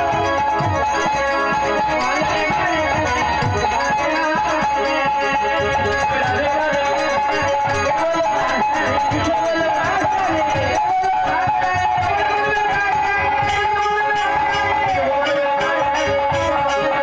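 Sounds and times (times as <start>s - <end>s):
jingling rattle percussion: 0.0s - 17.0s
man singing: 0.0s - 17.0s.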